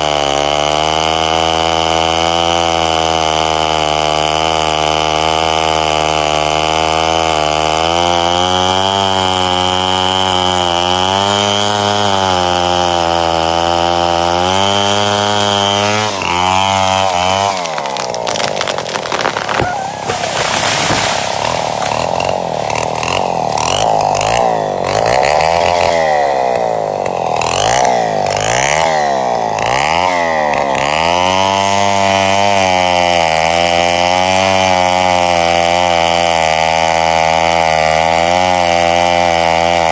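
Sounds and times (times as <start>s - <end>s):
chainsaw cutting rasp: 0.0s - 39.9s
chainsaw engine running: 0.0s - 39.9s.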